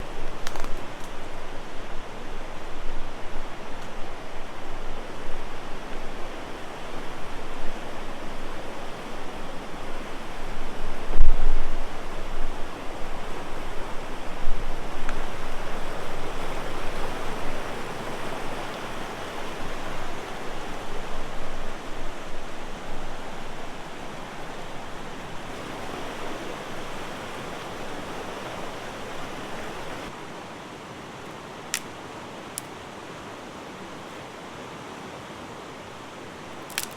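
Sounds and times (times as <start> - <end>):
river water rushing: 0.0 - 36.9.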